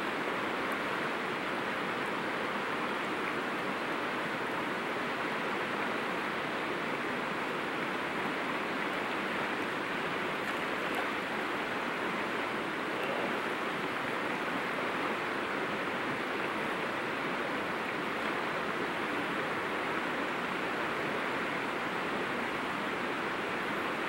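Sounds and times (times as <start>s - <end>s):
river water flowing over rocks: 0.0s - 24.0s.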